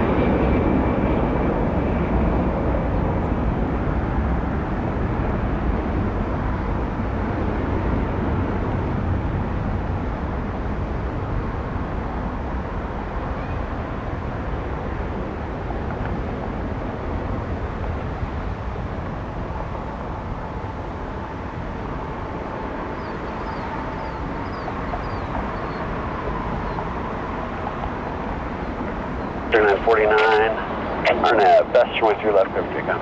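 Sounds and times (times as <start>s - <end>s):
jet engines rumbling with whine: 0.0s - 33.0s.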